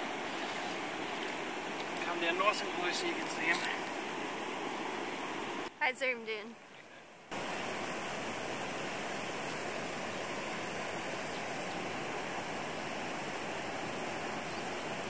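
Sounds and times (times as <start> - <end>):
shallow water washing at shore: 0.0 - 5.7, 7.3 - 15.0.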